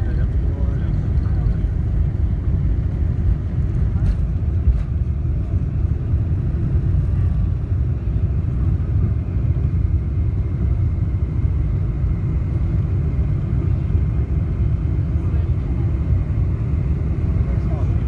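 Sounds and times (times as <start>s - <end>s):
jet engines rumbling at takeoff: 0.0s - 18.0s.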